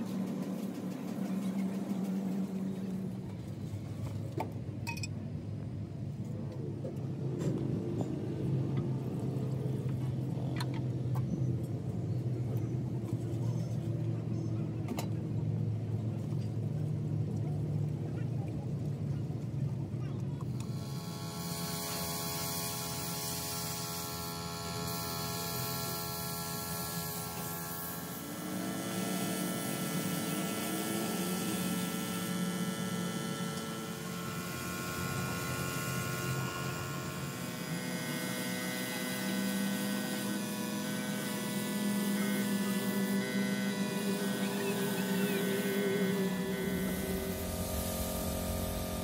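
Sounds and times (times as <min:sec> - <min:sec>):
air compressor hum: 0:00.0 - 0:11.1, 0:20.4 - 0:49.0.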